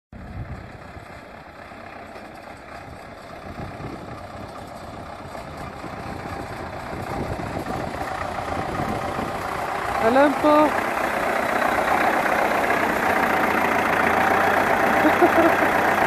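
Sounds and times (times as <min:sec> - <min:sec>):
tractor engine running: 0:00.1 - 0:16.0.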